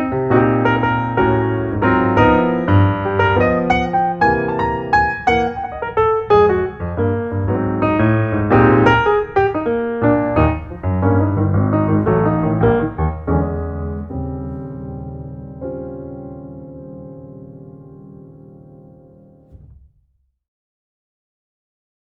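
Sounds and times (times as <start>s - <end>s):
piano music: 0.0s - 19.6s.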